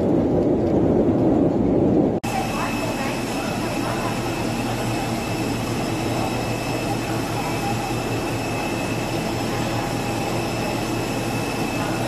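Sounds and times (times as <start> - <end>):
jet turbine whine and rumble: 0.0 - 12.0.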